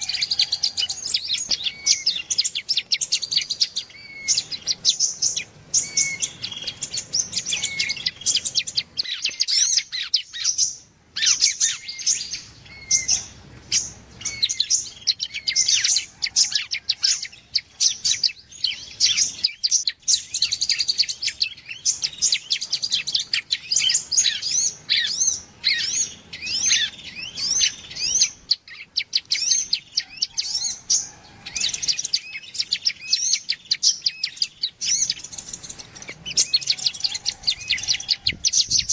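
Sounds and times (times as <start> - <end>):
high bird chirps and trills: 0.0 - 38.9.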